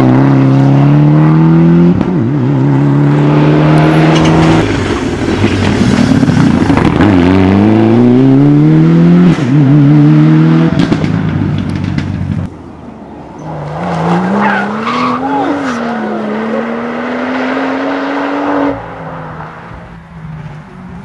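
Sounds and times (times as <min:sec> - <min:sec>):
rally car engines at full throttle: 0:00.0 - 0:21.0.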